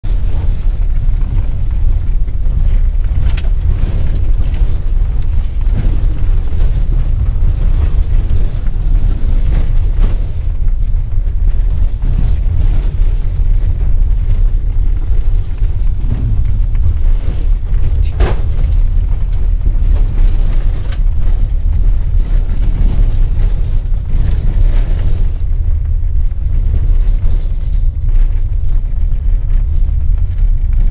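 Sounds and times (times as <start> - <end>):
engine and road rumble: 0.0 - 30.9
knocks and rattles over bumps: 0.0 - 30.9.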